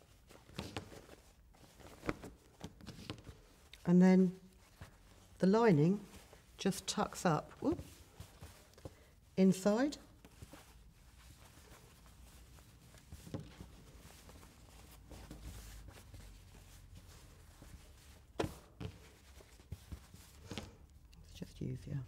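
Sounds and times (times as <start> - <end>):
fabric handling: 0.0 - 21.1.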